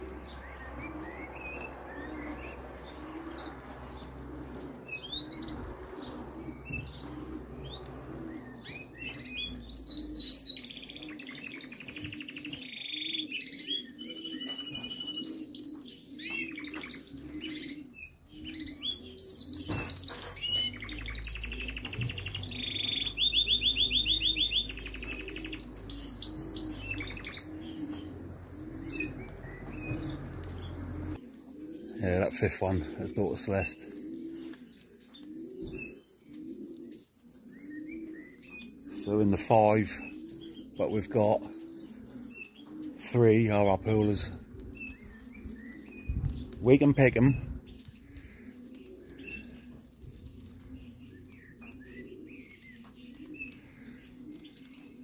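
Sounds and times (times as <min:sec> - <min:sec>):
pigeons cooing: 0:00.0 - 0:55.0
songbirds chirping and trilling: 0:00.0 - 0:55.0.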